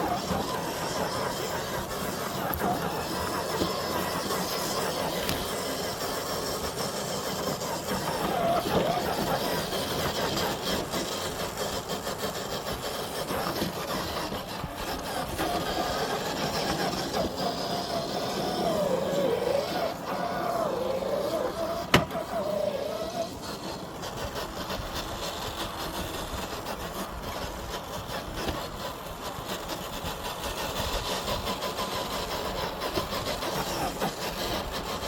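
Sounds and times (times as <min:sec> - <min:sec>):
electric motor and gearbox whining: 0:00.0 - 0:35.0.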